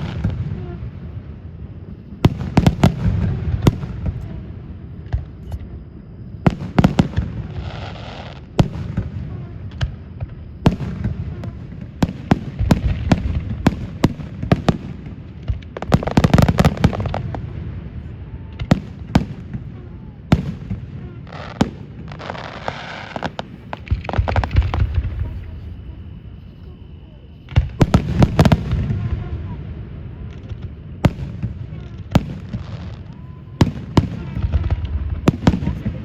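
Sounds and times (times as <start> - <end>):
fireworks rapid crackling: 0.0 - 1.4, 6.5 - 25.8, 27.5 - 36.0
fireworks booming bursts: 0.0 - 36.0.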